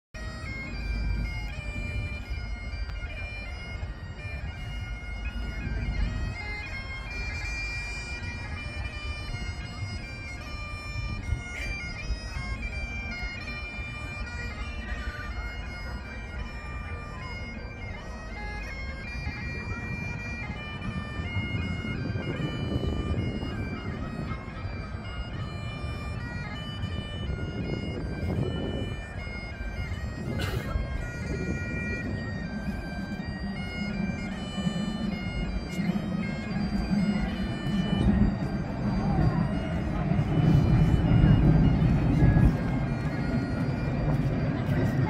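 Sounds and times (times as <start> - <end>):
bagpipes playing: 0.2 - 45.0.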